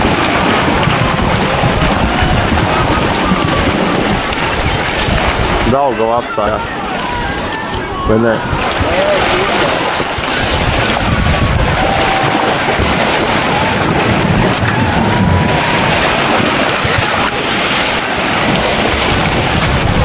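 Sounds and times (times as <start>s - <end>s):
floodwater rushing with ice: 0.0s - 20.0s
wind noise on microphone: 0.0s - 20.0s.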